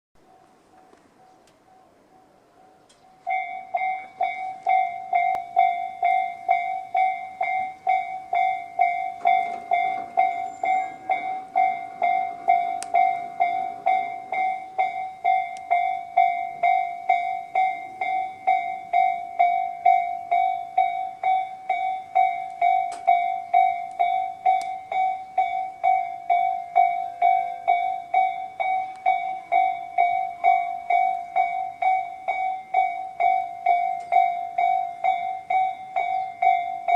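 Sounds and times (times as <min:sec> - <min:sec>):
level crossing warning bells: 0:00.2 - 0:36.9.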